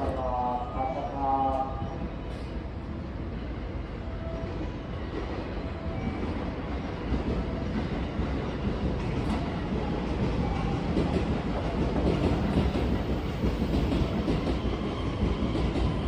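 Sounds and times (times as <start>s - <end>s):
train motors and wheels rumbling: 0.0s - 16.0s.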